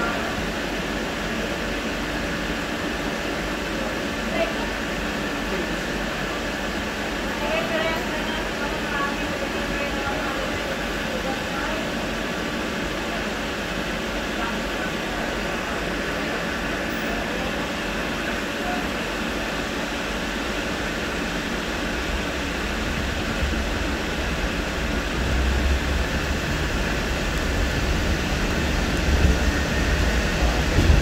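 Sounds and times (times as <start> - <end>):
tram rumbling on rails: 0.0 - 31.0.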